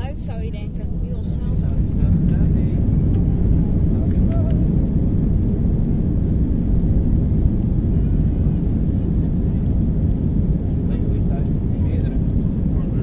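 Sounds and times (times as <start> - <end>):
aircraft rolling on runway: 0.0 - 13.0
jet engine low rumble: 0.0 - 13.0.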